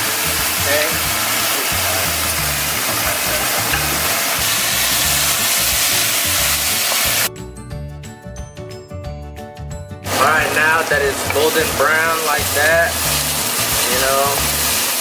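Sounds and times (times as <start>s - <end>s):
pork sizzling in a wok: 0.0s - 7.3s, 10.0s - 15.0s
background music with a beat: 0.0s - 15.0s.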